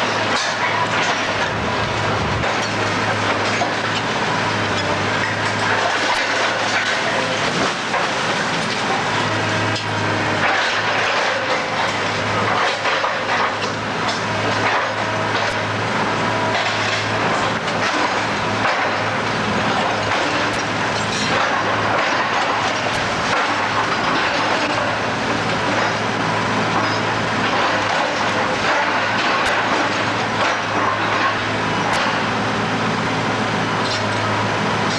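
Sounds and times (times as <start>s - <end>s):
diesel engine hum: 0.0s - 34.9s.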